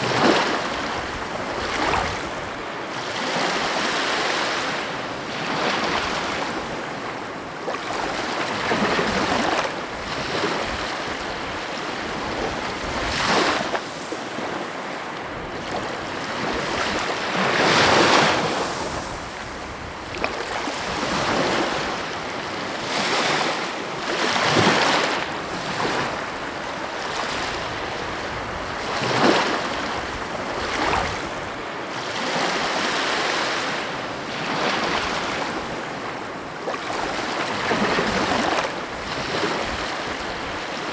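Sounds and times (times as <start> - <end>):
sea waves washing onto shore: 0.0 - 40.9.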